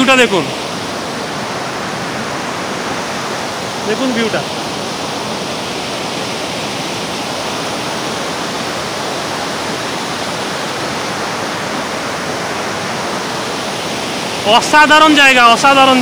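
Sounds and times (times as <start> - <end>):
water rushing over weir: 0.0 - 16.0.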